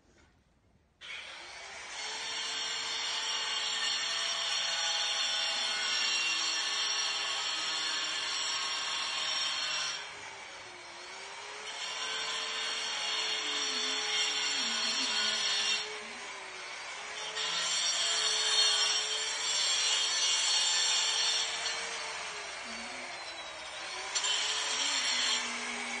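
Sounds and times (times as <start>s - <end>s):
power tool grinding marble: 1.0s - 26.0s.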